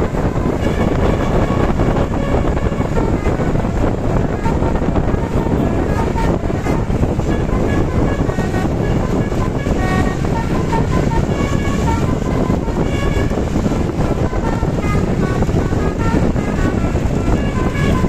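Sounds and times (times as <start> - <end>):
bus horn playing tooting melody: 0.0 - 18.0
heavy rumble: 0.0 - 18.0
wind noise: 0.0 - 18.0.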